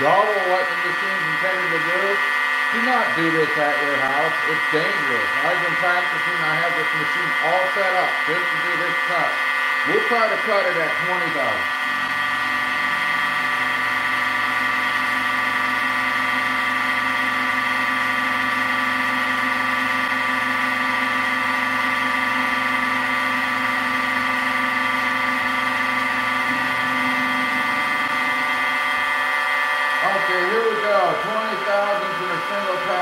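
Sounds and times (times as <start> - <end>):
milling machine whine: 0.0 - 33.0.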